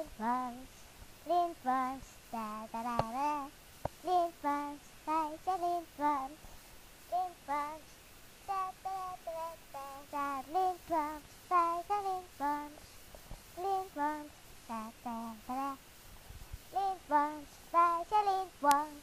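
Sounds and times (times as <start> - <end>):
child singing unaccompanied: 0.0 - 6.4, 7.0 - 16.0, 16.6 - 19.0.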